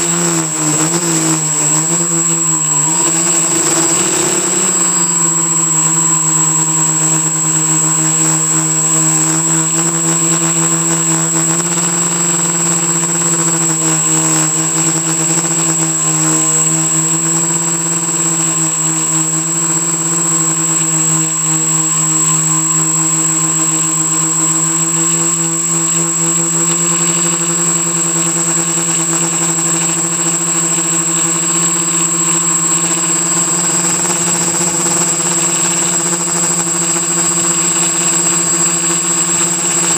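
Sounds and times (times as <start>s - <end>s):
drone motors buzzing: 0.0s - 39.9s
thin high whine: 0.0s - 39.9s.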